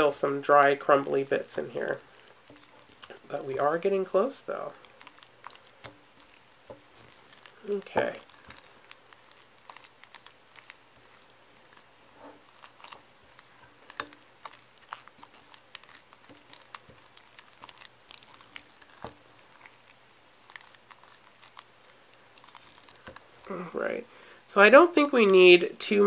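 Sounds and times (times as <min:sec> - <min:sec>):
wet paste being stirred: 0:00.0 - 0:26.0.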